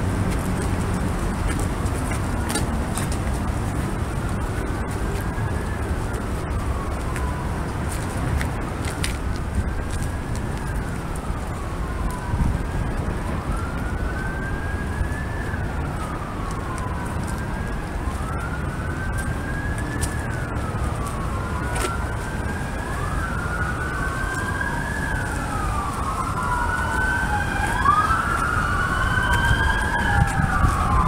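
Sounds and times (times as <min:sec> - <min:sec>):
emergency siren wailing: 0:00.0 - 0:31.0.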